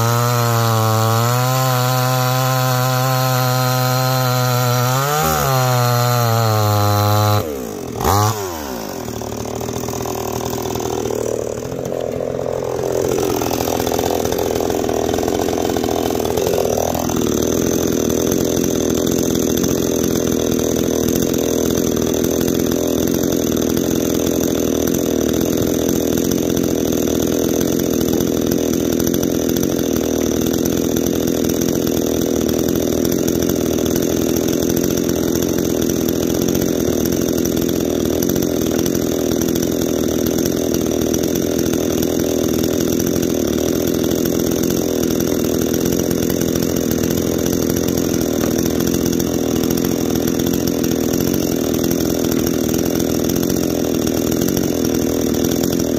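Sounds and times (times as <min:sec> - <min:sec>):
chainsaw running: 0:00.0 - 0:55.9.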